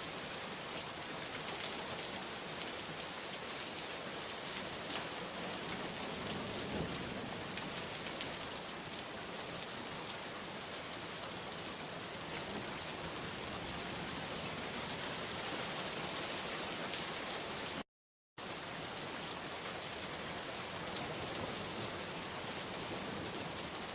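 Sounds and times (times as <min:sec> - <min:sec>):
rain falling: 0:00.0 - 0:17.8, 0:18.4 - 0:23.9.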